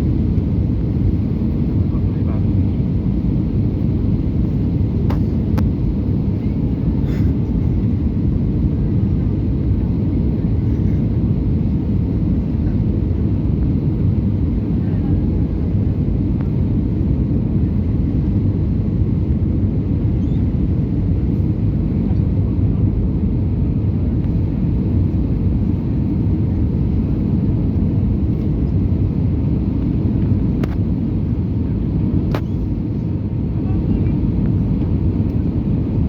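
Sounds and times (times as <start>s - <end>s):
aircraft engines rumbling in cabin: 0.0s - 36.0s.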